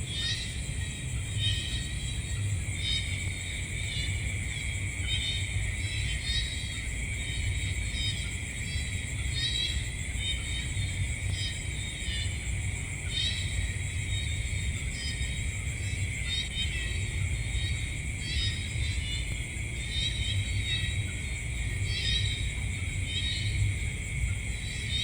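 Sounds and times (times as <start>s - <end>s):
insect chirping calls: 0.0s - 25.0s
insects trilling: 0.0s - 25.0s.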